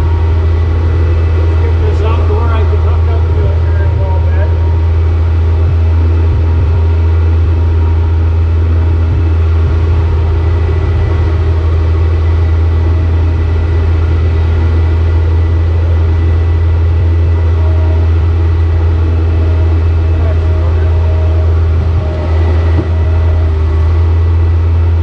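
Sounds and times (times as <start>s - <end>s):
large engine idling: 0.0s - 25.0s.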